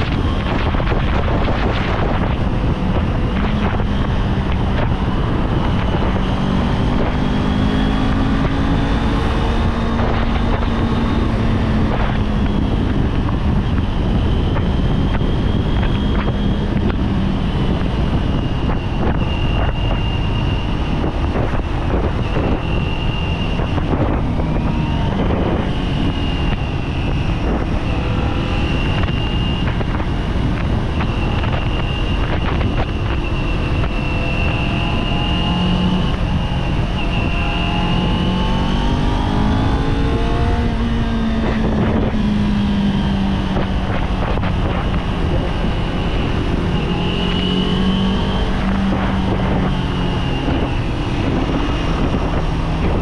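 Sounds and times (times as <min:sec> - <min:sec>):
high-pitched whine: 0:00.0 - 0:53.0
motorcycle engine accelerating: 0:00.0 - 0:53.0
wind rush on microphone: 0:00.0 - 0:53.0.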